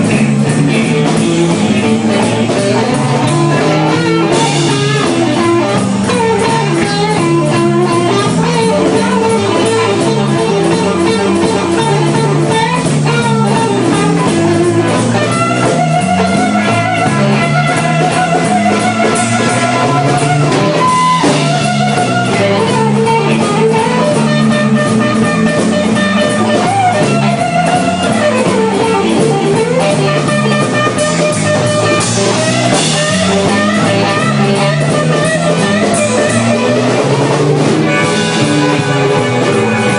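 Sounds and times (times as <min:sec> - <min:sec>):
drums: 0:00.0 - 0:39.9
electric guitar lines: 0:00.0 - 0:39.9
stepping bass line: 0:00.0 - 0:39.9.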